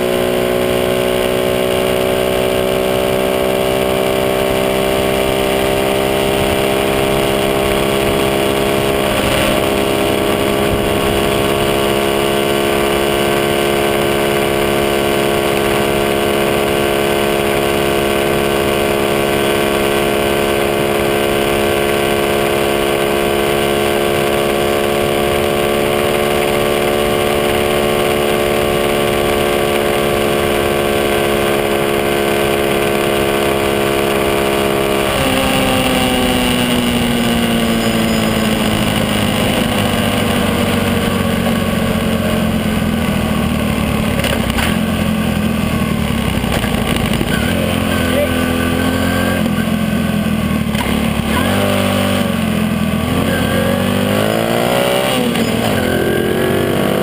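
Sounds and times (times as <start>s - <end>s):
motorcycle engine cruising: 0.0s - 57.0s
wind and road noise: 0.0s - 57.0s.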